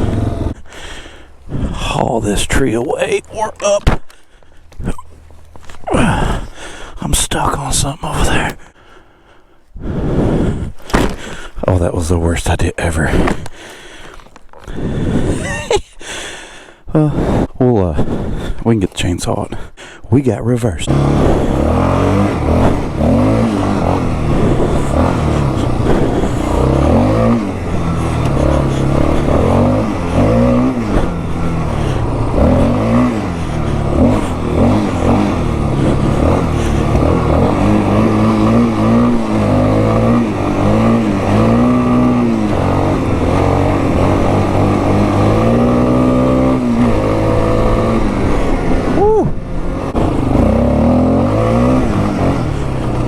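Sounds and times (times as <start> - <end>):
atv engine revving: 0.0 - 8.6, 10.4 - 15.7, 20.4 - 53.0.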